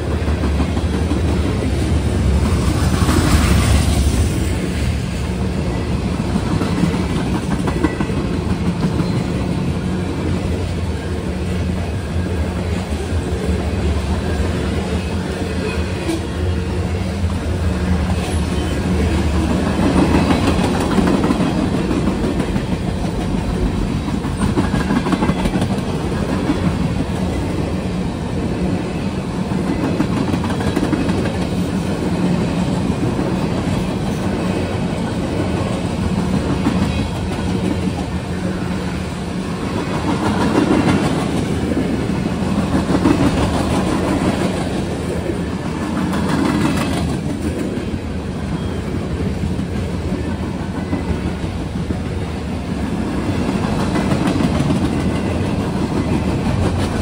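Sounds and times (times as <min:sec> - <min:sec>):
freight train wheels rumbling and rattling: 0:00.0 - 0:57.0.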